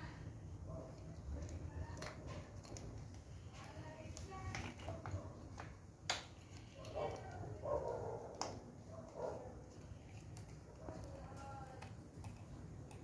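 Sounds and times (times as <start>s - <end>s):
small parts clicking and tapping: 1.0s - 13.0s.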